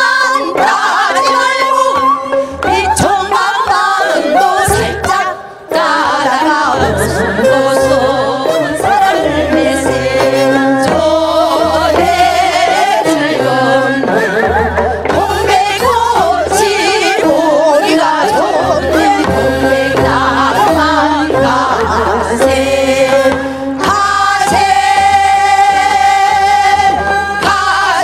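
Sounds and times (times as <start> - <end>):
amplified instrumental accompaniment: 0.0 - 28.0
women singing folk song: 0.0 - 28.0.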